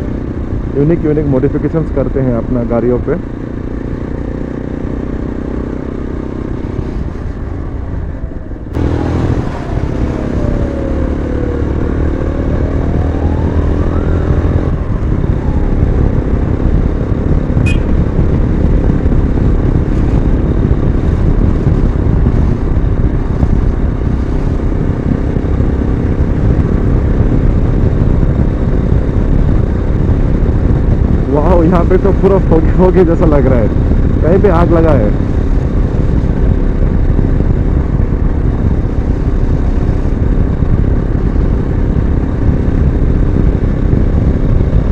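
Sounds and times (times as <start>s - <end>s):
motorcycle engine riding: 0.0s - 44.9s
wind rushing over microphone: 0.0s - 44.9s.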